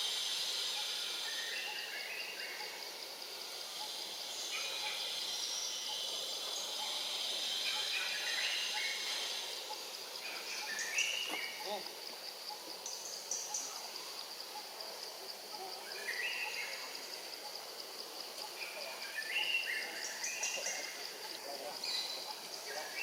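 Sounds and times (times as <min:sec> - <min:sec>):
insects buzzing: 0:00.0 - 0:23.0
bird chirping: 0:03.7 - 0:17.7, 0:18.4 - 0:23.0.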